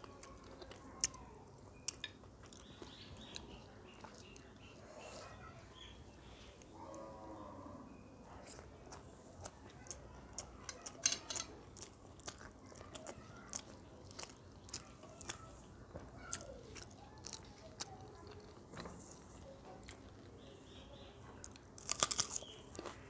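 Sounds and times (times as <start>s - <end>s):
chewing and biting food: 0.0s - 5.4s, 8.3s - 23.0s.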